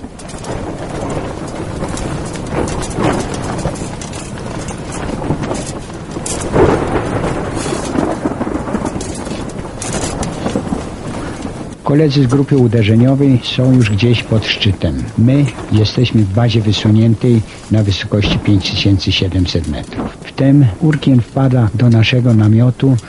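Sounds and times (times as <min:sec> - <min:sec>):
crackling: 0:00.0 - 0:23.0
strong wind gusting: 0:00.0 - 0:23.0.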